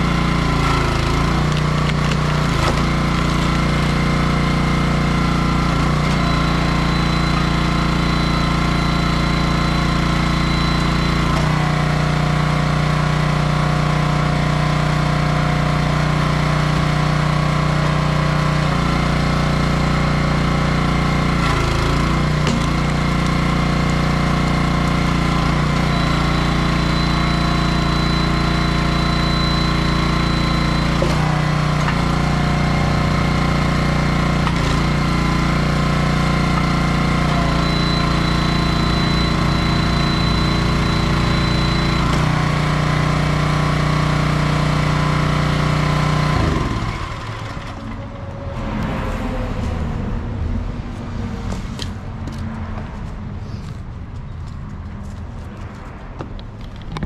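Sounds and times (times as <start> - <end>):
small gas engine running: 0.0 - 50.0.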